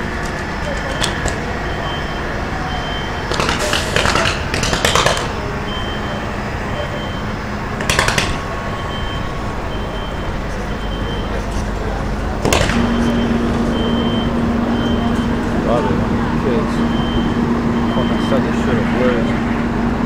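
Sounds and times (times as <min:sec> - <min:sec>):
fire engines droning: 0:00.0 - 0:20.0.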